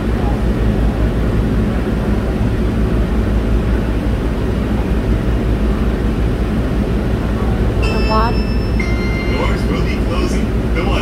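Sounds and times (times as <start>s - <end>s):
tram running rumble and hiss: 0.0s - 11.0s.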